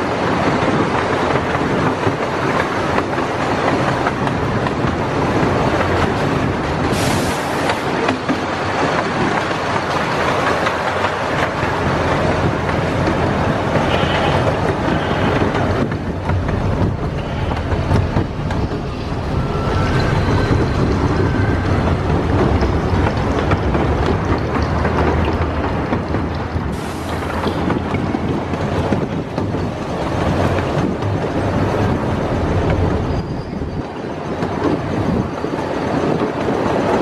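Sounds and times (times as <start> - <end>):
miniature train rumbling on rails: 0.0 - 37.0.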